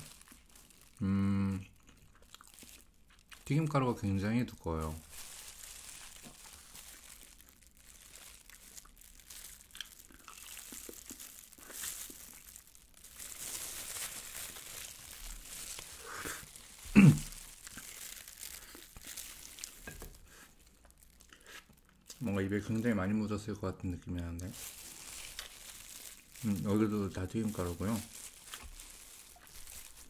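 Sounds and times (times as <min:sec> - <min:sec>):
fried batter crunching: 0:00.0 - 0:23.2, 0:24.2 - 0:30.0
plastic glove crinkling: 0:00.0 - 0:30.0.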